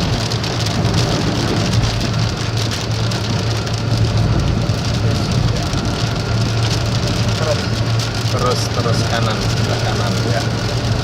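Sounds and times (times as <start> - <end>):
engine and road noise hum: 0.0 - 11.0
heavy rain on car roof: 0.0 - 11.0.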